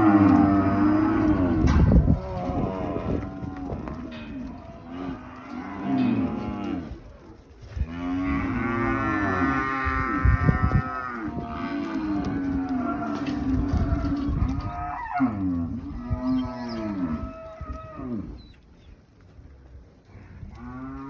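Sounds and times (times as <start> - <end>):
long loud moo: 0.0 - 7.0, 7.8 - 18.3
cattle bawling: 0.0 - 18.4.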